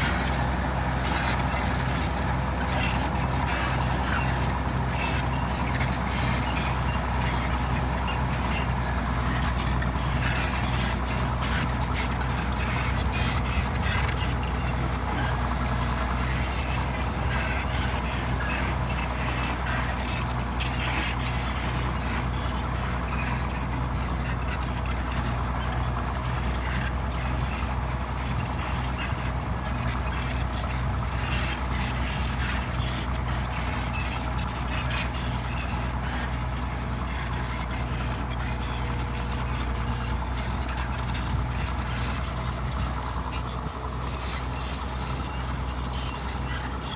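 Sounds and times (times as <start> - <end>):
bulldozer diesel engine: 0.0 - 46.9.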